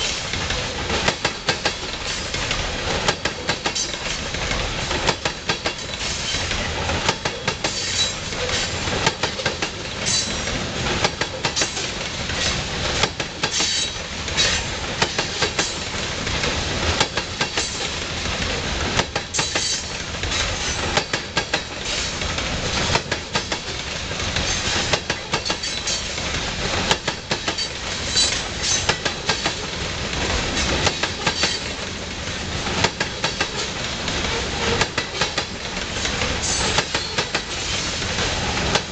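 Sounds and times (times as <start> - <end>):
train rolling noise: 0.0 - 38.9
train wheels clacking on rail joints: 0.0 - 38.9.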